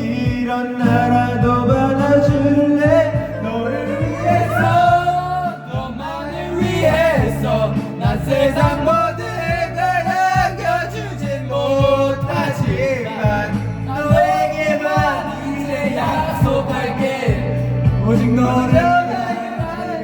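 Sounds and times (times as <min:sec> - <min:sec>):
karaoke backing track: 0:00.0 - 0:20.0
person singing: 0:00.0 - 0:20.0.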